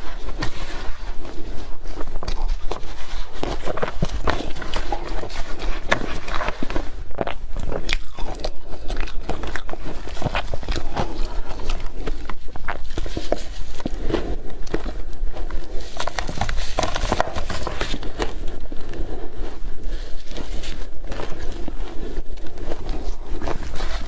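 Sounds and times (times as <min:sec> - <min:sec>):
crunching and chewing: 0:00.0 - 0:24.0.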